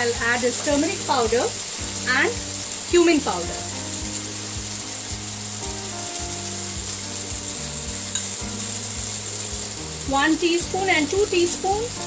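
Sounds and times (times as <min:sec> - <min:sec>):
paste sizzling in pan: 0:00.0 - 0:12.0
soft background music: 0:00.0 - 0:12.0.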